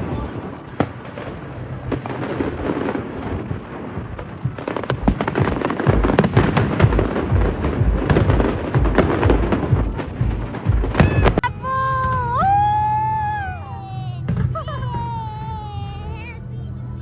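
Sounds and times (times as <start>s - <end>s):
deep fireworks booms: 0.0s - 13.6s, 14.2s - 15.5s
fireworks bangs and crackles: 0.0s - 15.5s.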